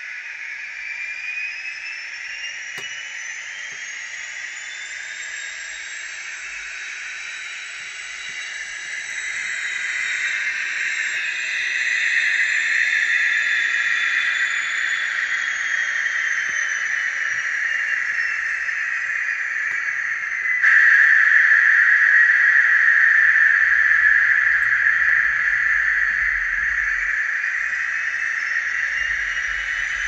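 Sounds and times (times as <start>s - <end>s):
turbo engine scream with whistle: 0.0s - 30.0s.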